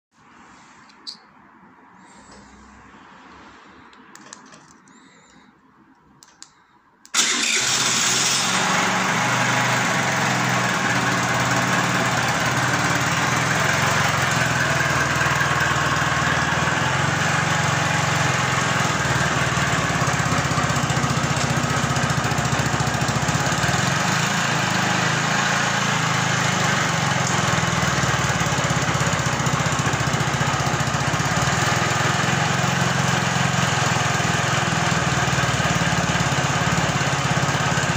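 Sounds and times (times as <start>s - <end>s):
scooter engine starting and idling: 7.0s - 37.9s.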